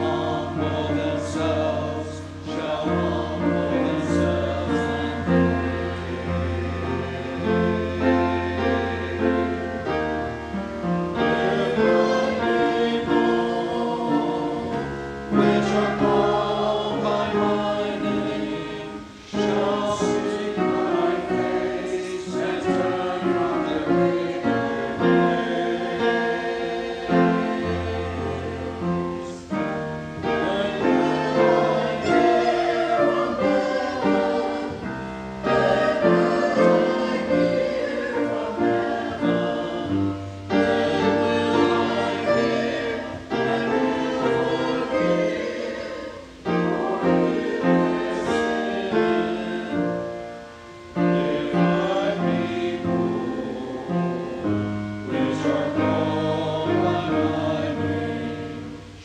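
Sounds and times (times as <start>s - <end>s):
church choir singing: 0.0s - 59.0s
organ: 0.0s - 59.0s.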